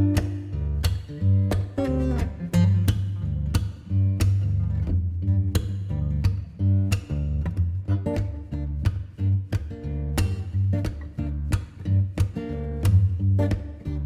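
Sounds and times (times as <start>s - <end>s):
plucked guitar music with bass: 0.0s - 14.0s.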